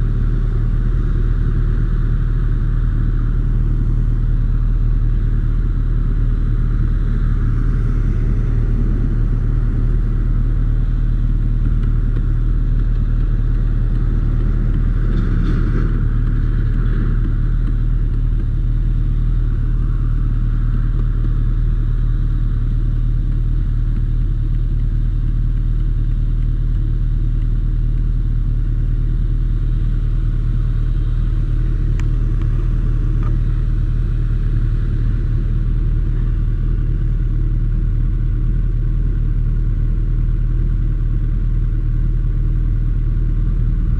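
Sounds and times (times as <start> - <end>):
vehicle engine idling: 0.0 - 43.9.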